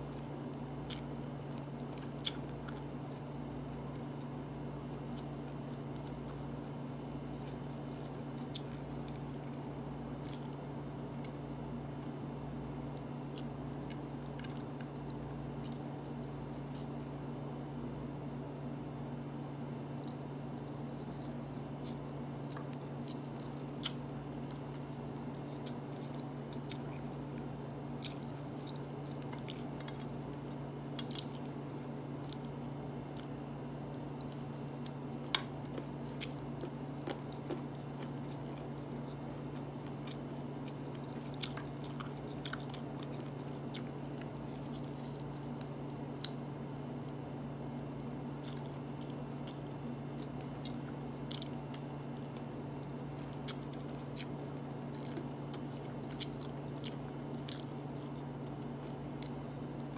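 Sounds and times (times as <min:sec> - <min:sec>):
person chewing food: 0:00.0 - 0:12.2, 0:12.9 - 0:17.0, 0:20.0 - 0:59.9
steady low hum: 0:00.0 - 0:59.9.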